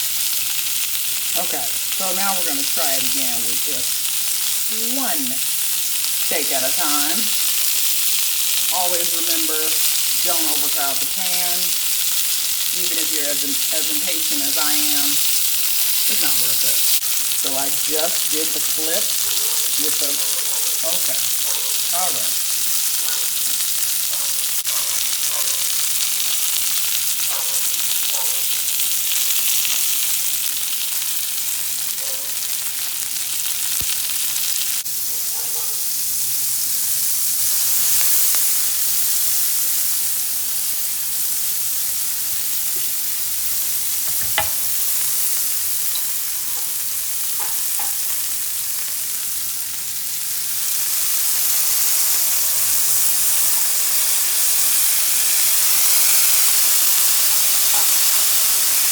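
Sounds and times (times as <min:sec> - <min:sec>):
food sizzling in a pan: 0:00.0 - 0:58.9.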